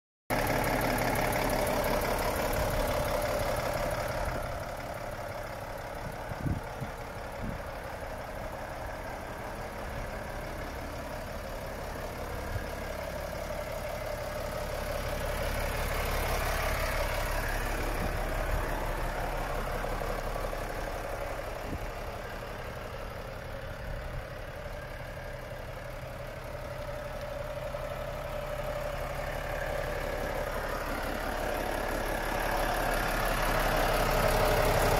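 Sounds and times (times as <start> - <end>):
diesel truck idling: 0.3 - 34.9.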